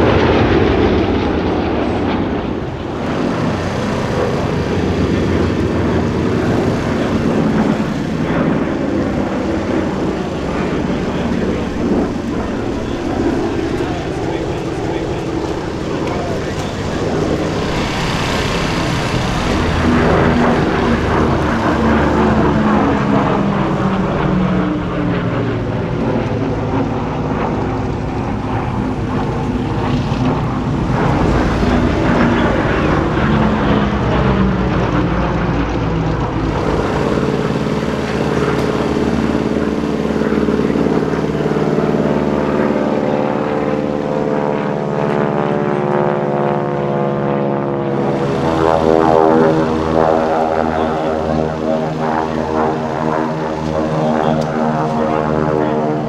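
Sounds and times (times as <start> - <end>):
biplane flying by: 0.0 - 56.0
twin piston engines droning: 0.0 - 56.0.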